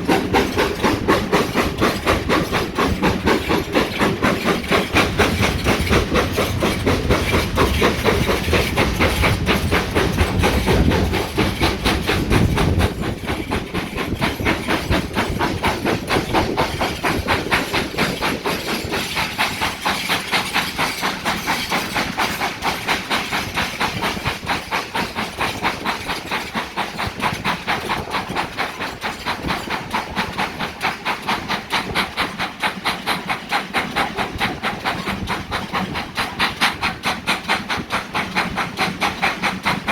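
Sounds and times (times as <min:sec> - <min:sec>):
steam hissing: 0:00.0 - 0:39.9
steam locomotive exhaust beating: 0:00.0 - 0:39.9.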